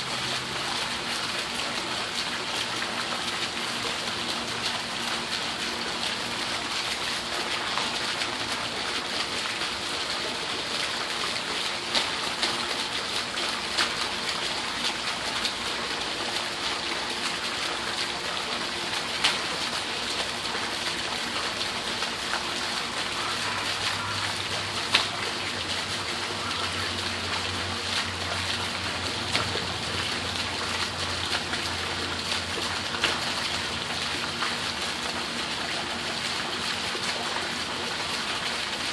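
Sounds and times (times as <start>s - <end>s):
low steady hum: 0.0s - 38.9s
water splashing: 0.0s - 38.9s.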